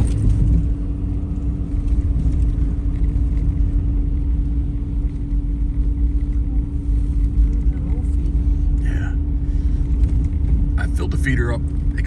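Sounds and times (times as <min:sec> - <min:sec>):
constant hum: 0:00.0 - 0:12.0
road and engine rumble in car: 0:00.0 - 0:12.0.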